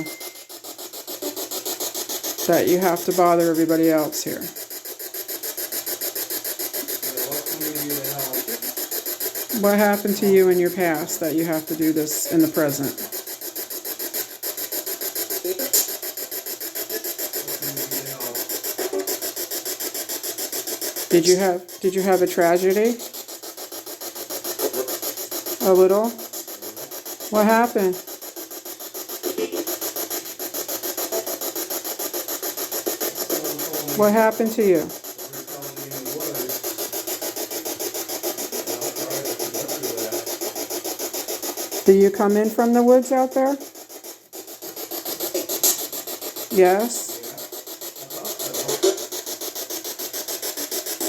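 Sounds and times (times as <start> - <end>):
electronic detector rasping pulses: 0.0 - 51.0.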